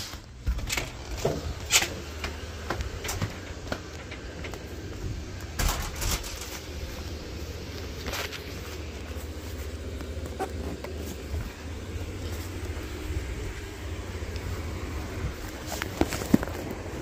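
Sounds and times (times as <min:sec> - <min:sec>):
footsteps: 0:00.0 - 0:17.0
knocks and rustles of handling: 0:00.0 - 0:17.0
steady low rumble: 0:00.2 - 0:17.0.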